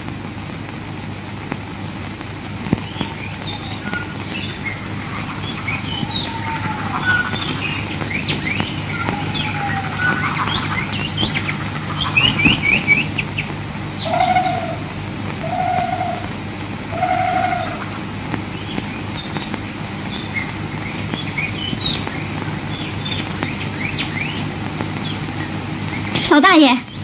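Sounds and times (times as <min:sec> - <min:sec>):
film soundtrack hum and hiss: 0:00.0 - 0:27.0
songbirds chirping: 0:02.5 - 0:27.0.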